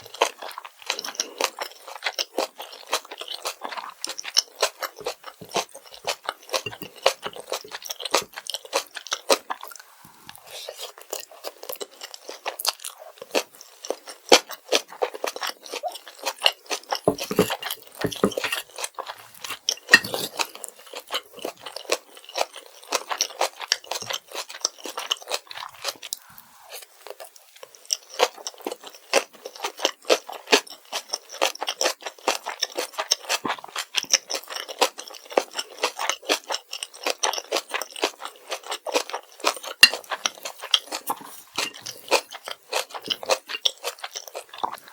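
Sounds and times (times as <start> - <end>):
crunchy chewing: 0.0 - 44.9.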